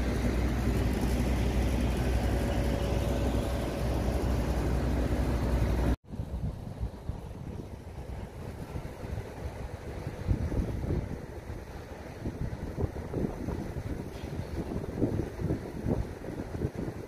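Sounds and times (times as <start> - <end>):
fluttering wind hiss: 0.0 - 17.0
wind buffeting microphone: 0.0 - 17.0.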